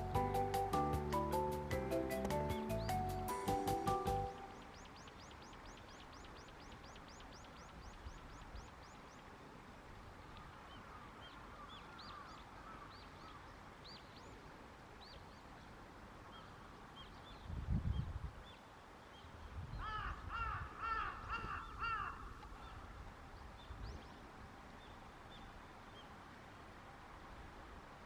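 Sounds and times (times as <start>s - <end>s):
songbirds chirping: 0.0s - 26.8s.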